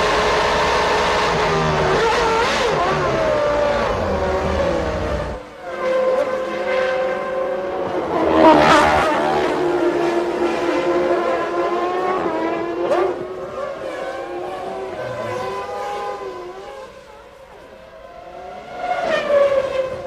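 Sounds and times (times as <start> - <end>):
racing car engines at high revs: 0.0 - 20.0
racing car passing: 0.0 - 20.0.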